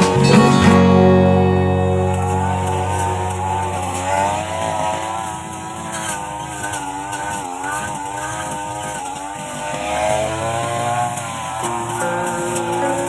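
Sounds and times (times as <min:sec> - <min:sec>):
string trimmer engine running: 0:00.0 - 0:13.0.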